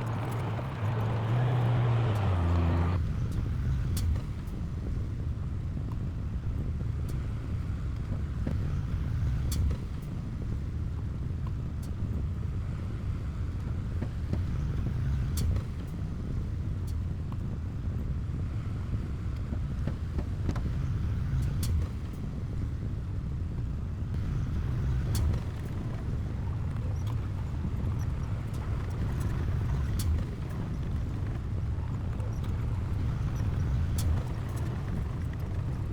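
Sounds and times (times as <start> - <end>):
diesel engine low rumble: 0.0 - 35.9.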